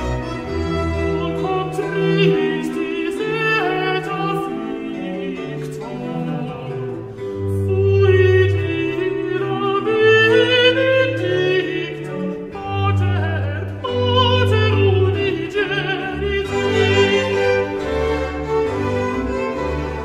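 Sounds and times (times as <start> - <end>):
deep cello line: 0.0 - 20.0
slow classical string music: 0.0 - 20.0.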